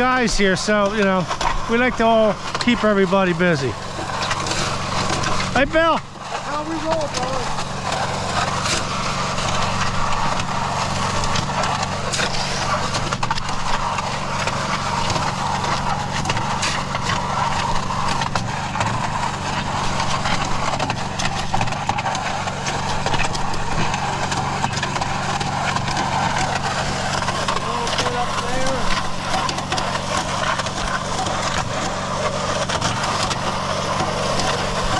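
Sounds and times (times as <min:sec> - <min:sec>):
concrete mixer engine drone: 0:00.0 - 0:34.9
rough scraping noise: 0:00.0 - 0:34.9.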